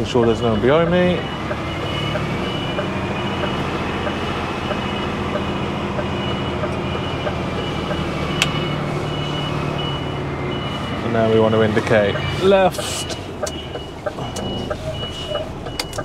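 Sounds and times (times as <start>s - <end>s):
diesel engine at low revs: 0.0s - 16.0s
reversing alarm beeping: 0.0s - 16.0s.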